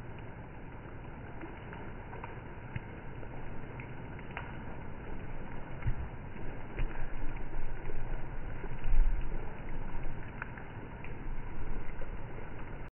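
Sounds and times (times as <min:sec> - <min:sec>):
rain falling on wet road: 0:00.0 - 0:12.9.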